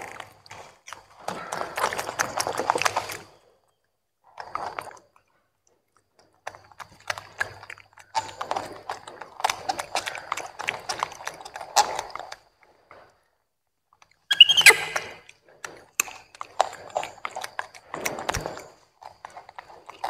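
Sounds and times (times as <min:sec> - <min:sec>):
monkeys chewing wet crunching: 0:00.0 - 0:03.6, 0:04.3 - 0:13.2, 0:14.0 - 0:20.0.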